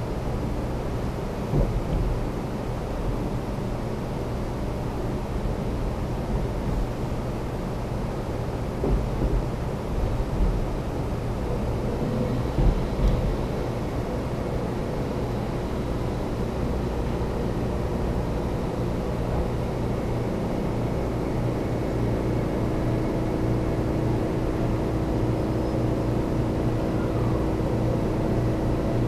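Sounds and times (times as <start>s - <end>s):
steady hum: 0.0s - 29.0s
train cabin rumble: 0.0s - 29.0s.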